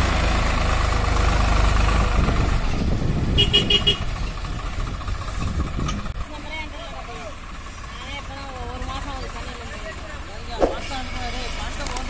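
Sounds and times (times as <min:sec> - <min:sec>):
tractor diesel engine rumbling: 0:00.0 - 0:12.0.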